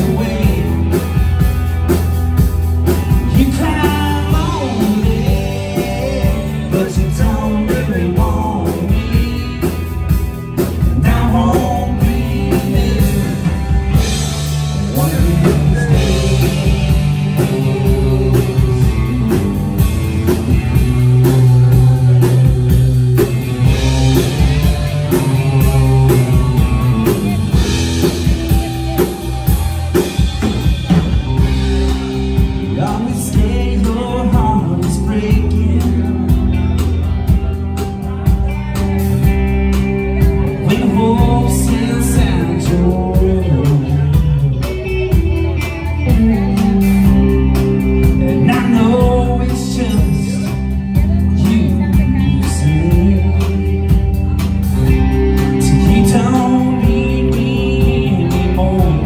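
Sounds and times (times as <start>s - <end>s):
person singing: 0.0s - 2.0s, 2.9s - 59.0s
bass guitar: 0.0s - 59.0s
drum kit: 0.0s - 59.0s
electric guitar: 0.0s - 59.0s.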